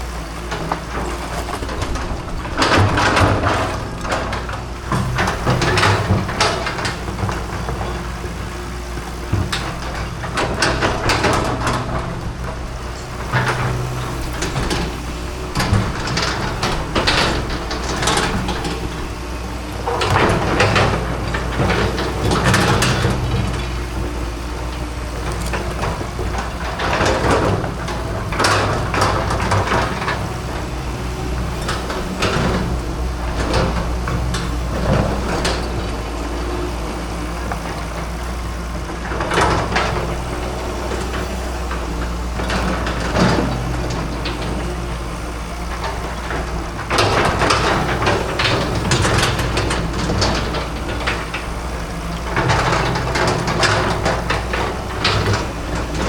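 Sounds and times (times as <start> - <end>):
bucket scraping rubble: 0.0 - 56.0
excavator engine running: 0.0 - 56.0.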